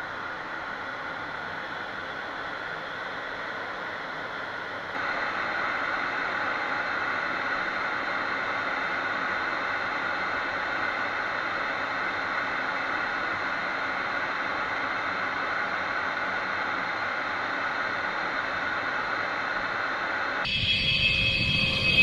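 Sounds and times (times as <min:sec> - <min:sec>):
jet engine noise in cockpit: 0:00.0 - 0:22.0.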